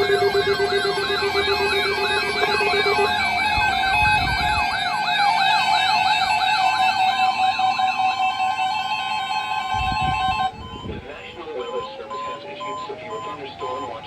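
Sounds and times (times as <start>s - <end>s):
steady alarm tones: 0.0s - 14.0s
yelping electronic sirens: 0.0s - 14.0s.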